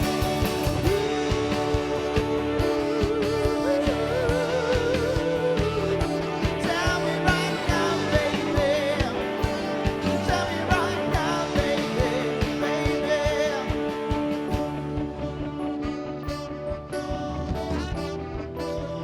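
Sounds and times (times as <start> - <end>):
person singing: 0.0 - 16.1
steady drum beat: 0.0 - 18.8
guitar: 0.0 - 19.0.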